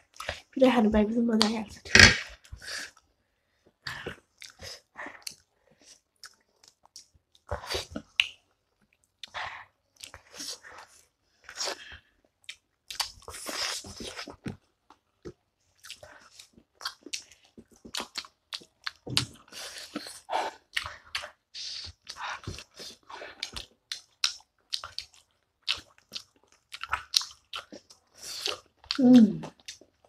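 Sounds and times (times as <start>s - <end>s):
people chewing wetly: 0.0s - 0.6s, 3.7s - 30.0s.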